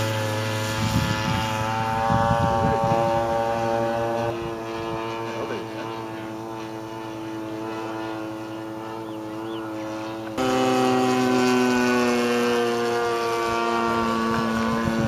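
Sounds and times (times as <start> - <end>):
model plane engine droning: 0.0 - 15.0.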